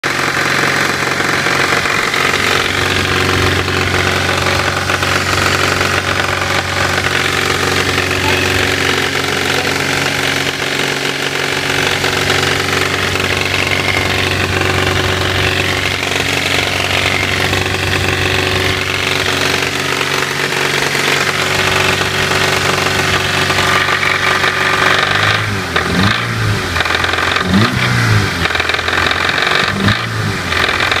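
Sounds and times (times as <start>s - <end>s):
car engine idling and revving: 0.0s - 31.0s
engine knock: 0.0s - 31.0s.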